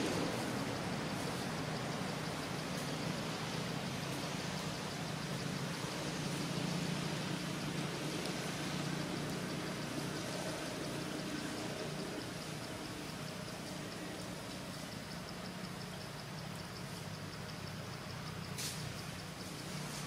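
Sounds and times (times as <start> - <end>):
faint high ticking: 0.0 - 20.0.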